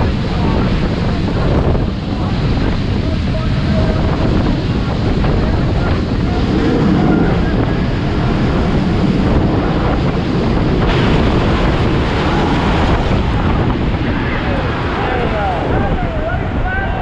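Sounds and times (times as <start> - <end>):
jet turbine roar: 0.0 - 17.0
wind buffeting microphone: 0.0 - 17.0.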